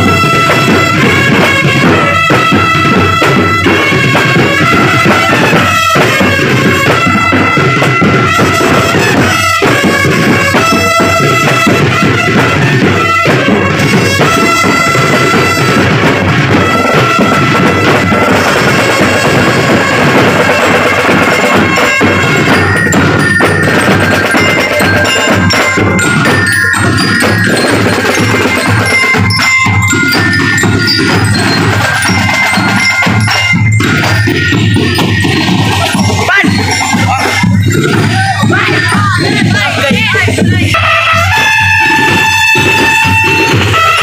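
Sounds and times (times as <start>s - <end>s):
drums beating: 0.0s - 44.0s
mallet percussion melody: 0.0s - 44.0s.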